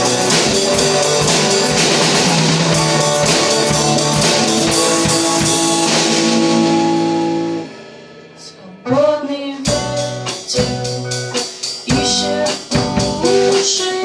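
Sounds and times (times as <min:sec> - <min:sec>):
drum kit with cymbal hits: 0:00.0 - 0:14.0
electric guitar: 0:00.0 - 0:14.0.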